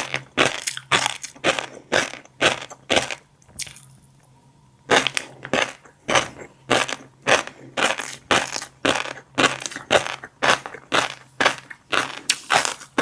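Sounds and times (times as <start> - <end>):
chewing crunchy fish roe: 0.0 - 4.3, 4.9 - 13.0.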